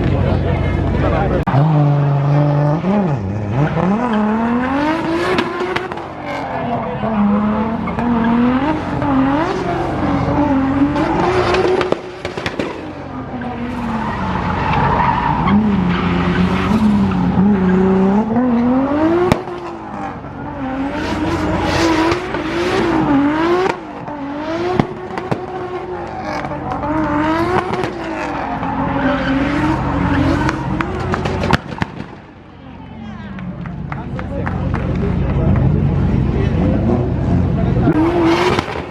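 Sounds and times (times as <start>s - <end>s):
car engine revving: 0.0s - 32.5s, 33.3s - 38.9s.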